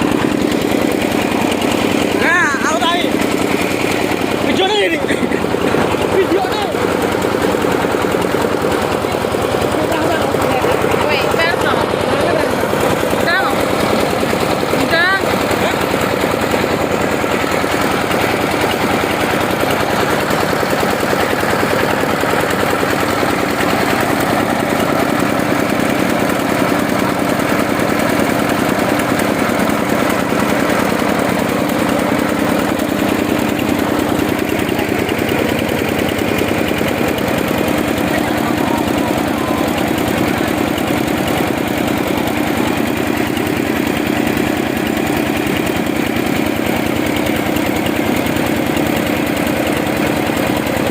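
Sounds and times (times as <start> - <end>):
diesel engine driving rice mill: 0.0 - 50.9.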